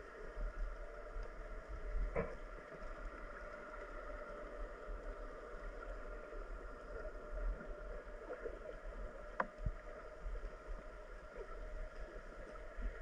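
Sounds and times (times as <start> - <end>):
faint steady hum: 0.0 - 13.0
muffled water sloshing and gurgling: 0.0 - 13.0.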